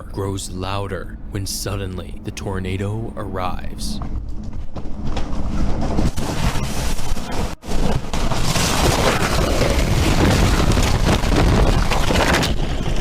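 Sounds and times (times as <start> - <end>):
tornado roar of wind and debris: 0.0 - 13.0.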